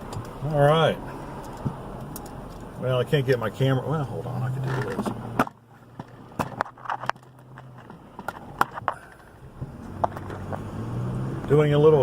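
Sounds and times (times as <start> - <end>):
low hum of car: 0.0 - 12.0.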